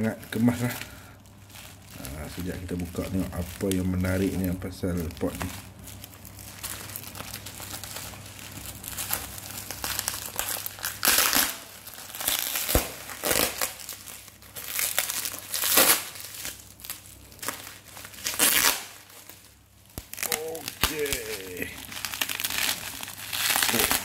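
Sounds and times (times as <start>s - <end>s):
bubble wrap and plastic crinkling: 0.0s - 24.0s.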